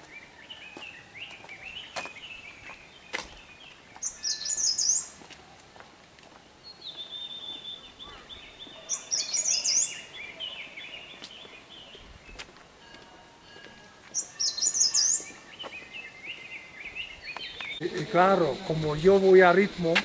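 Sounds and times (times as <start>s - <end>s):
birds chirping and twittering: 0.0s - 20.0s.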